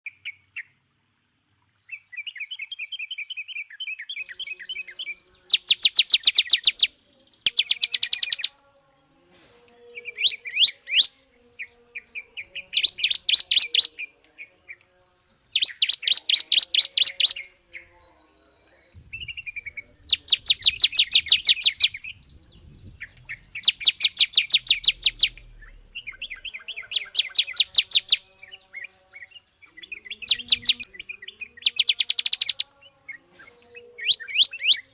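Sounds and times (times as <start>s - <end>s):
soft bird twittering: 1.7s - 8.6s, 9.7s - 14.9s, 15.5s - 34.9s
songbird singing fast trills: 1.7s - 9.0s, 9.7s - 34.9s.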